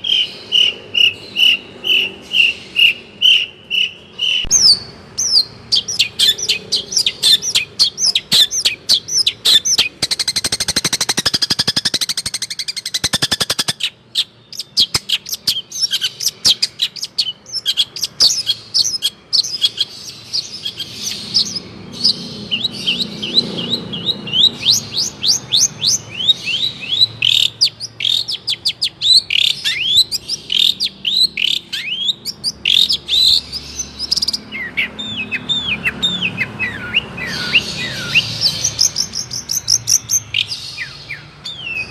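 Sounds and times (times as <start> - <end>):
bird chirping and whistling: 0.0 - 41.9.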